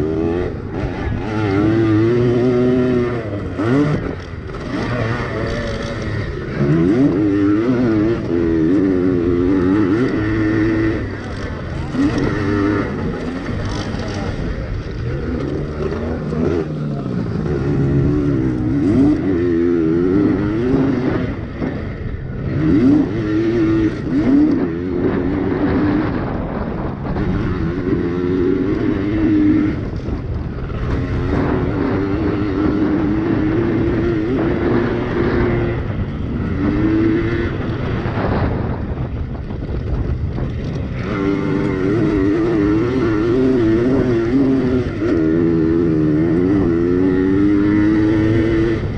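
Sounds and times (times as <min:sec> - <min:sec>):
small two-stroke engines racing: 0:00.0 - 0:48.9.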